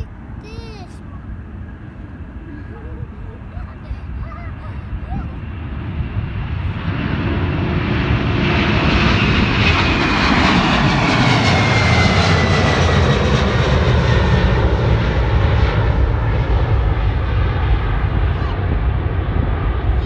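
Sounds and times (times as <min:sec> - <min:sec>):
jet engine rumble: 0:00.0 - 0:20.0
jet engine whine: 0:00.0 - 0:20.0.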